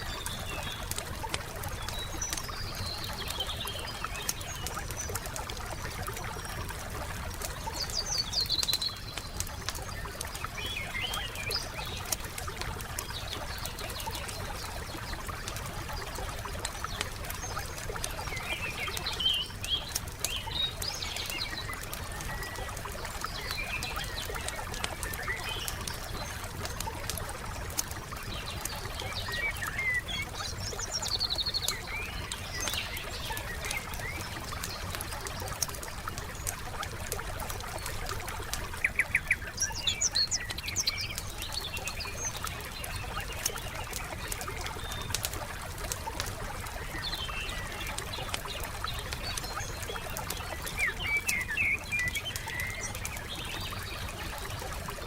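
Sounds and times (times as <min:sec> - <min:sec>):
campfire crackling and popping: 0:00.0 - 0:55.0
songbirds chirping: 0:00.0 - 0:55.0.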